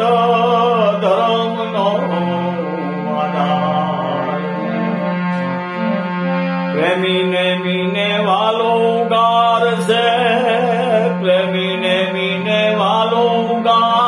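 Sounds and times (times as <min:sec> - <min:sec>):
man singing long wavering notes: 0:00.0 - 0:05.0, 0:06.8 - 0:14.0
instrument playing stepping melody: 0:01.1 - 0:14.0.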